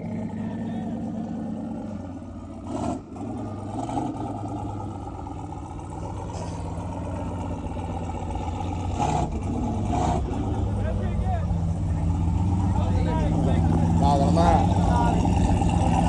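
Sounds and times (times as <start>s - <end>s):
pickup truck engine idling: 0.0s - 16.0s.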